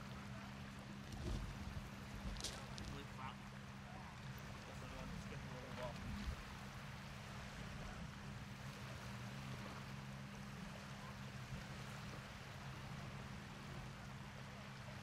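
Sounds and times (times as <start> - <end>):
low steady hum: 0.0 - 15.0
water washing on shore: 0.0 - 15.0.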